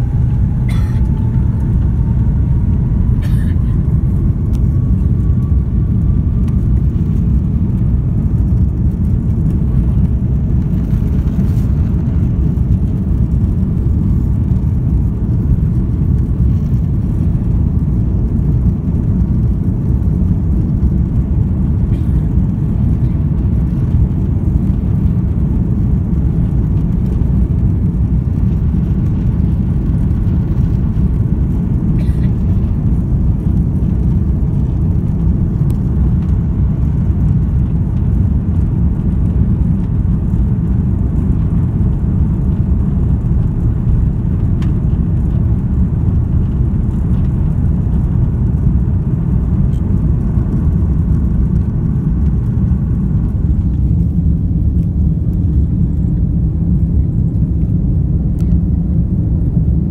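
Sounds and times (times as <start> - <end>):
airplane taxiing rumble in cabin: 0.0 - 59.9
faint whine: 0.0 - 59.9.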